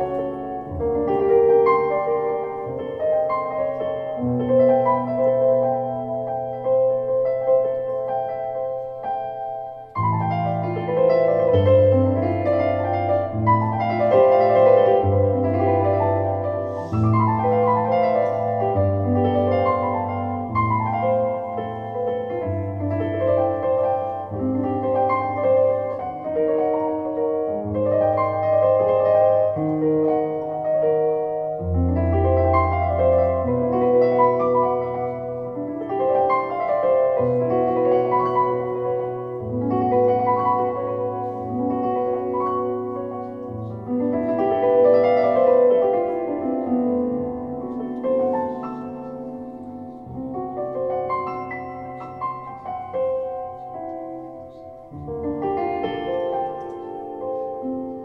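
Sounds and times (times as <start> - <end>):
slow piano chords: 0.0 - 58.0.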